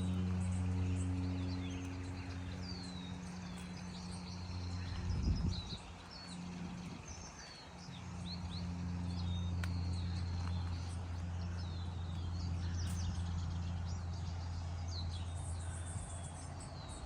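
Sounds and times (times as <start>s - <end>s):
low rumble: 0.0s - 16.7s
low mechanical hum: 0.0s - 17.0s
small birds chirping: 0.0s - 17.0s.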